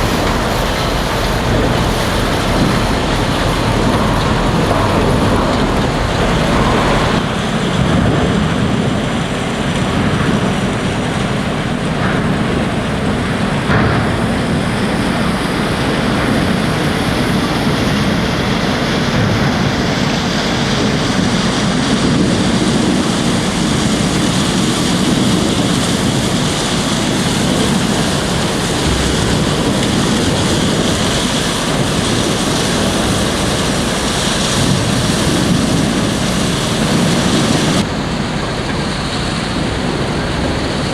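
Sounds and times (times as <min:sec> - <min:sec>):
wood chipper running: 0:00.0 - 0:15.0, 0:15.8 - 0:40.8.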